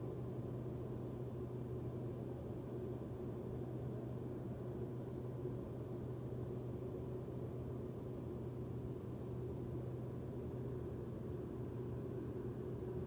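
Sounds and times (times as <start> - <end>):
faint steady whine: 0.0 - 13.0
propeller aircraft engine droning: 0.0 - 13.0.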